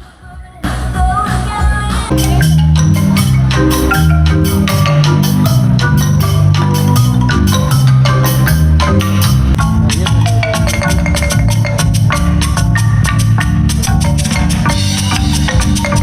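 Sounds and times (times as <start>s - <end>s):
music with steady beat and bass: 0.0s - 16.0s
bright mallet percussion melody: 2.1s - 16.0s.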